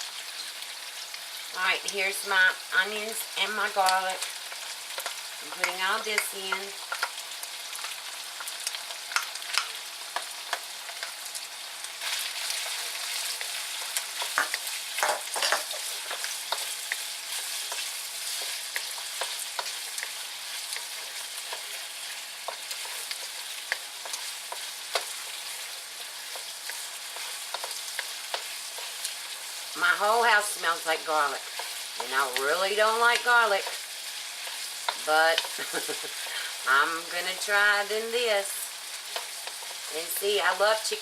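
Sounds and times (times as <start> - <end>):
food sizzling in a hot pan: 0.0 - 41.0.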